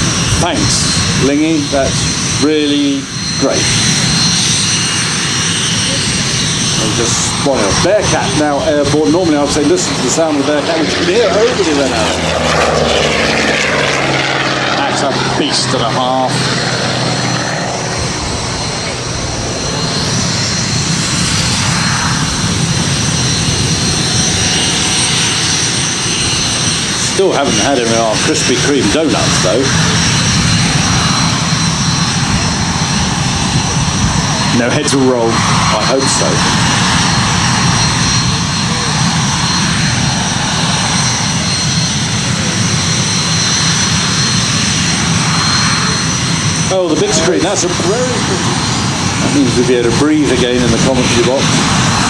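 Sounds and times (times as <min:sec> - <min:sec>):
jet engines whining: 0:00.0 - 0:52.0
piston aircraft engine rumble: 0:00.0 - 0:52.0.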